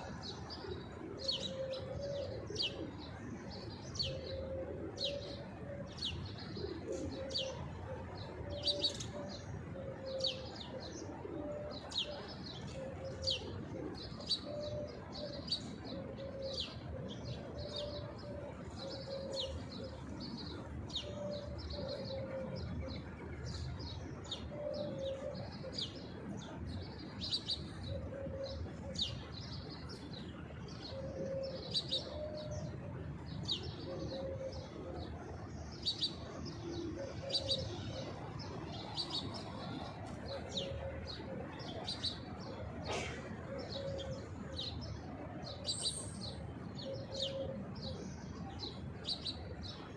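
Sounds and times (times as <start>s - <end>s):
pigeons cooing: 0.0s - 49.9s
small birds chirping: 0.0s - 49.9s.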